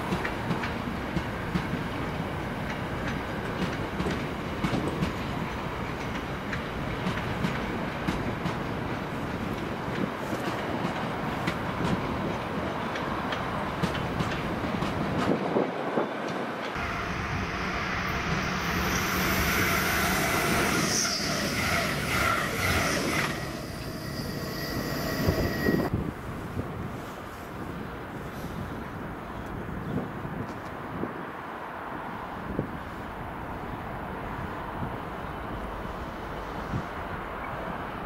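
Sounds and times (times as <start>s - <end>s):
high train whine and squeal: 0.0s - 30.2s, 32.0s - 38.0s
train rumble: 0.0s - 30.9s.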